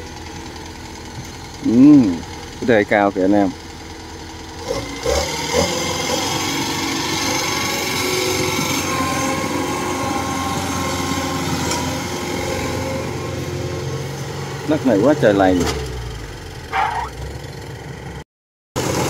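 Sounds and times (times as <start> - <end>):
diesel engine running under load: 0.0 - 18.2, 18.8 - 19.0.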